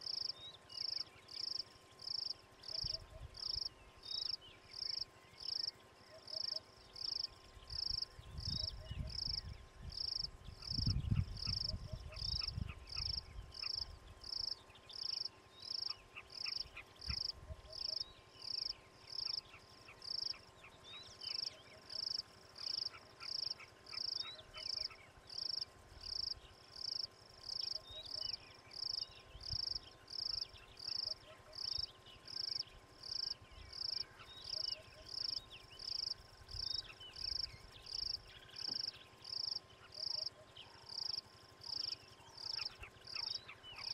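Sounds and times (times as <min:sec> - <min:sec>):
faint bird twittering: 0:00.0 - 0:43.9
insect chirping: 0:00.0 - 0:43.9.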